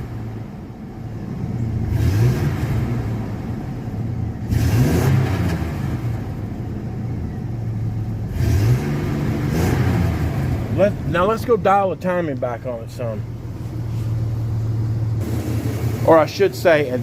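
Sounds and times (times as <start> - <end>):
pickup engine revving and misfiring: 0.0 - 6.7, 7.8 - 17.0.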